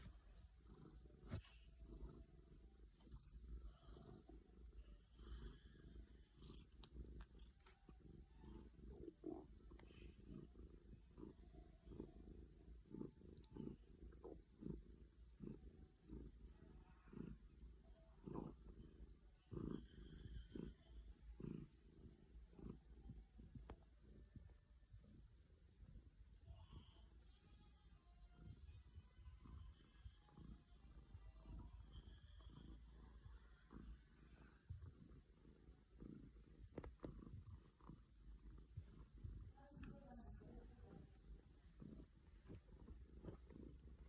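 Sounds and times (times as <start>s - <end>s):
cat stomach gurgling: 0.0s - 27.3s, 28.0s - 44.0s
cat purring: 0.0s - 44.0s.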